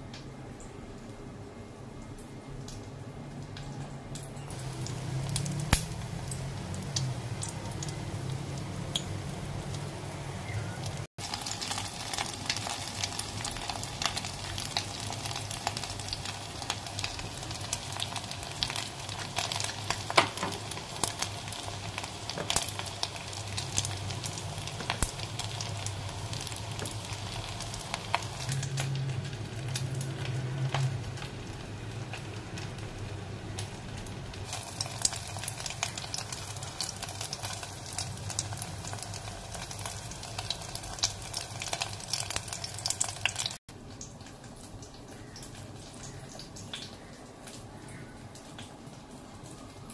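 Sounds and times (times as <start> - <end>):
food sizzling in hot oil: 4.5 - 45.9.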